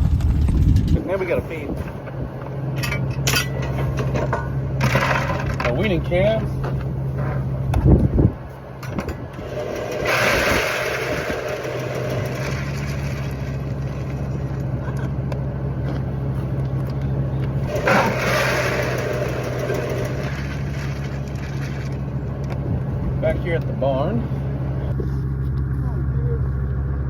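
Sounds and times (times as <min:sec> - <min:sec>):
truck engine humming: 0:00.0 - 0:27.0.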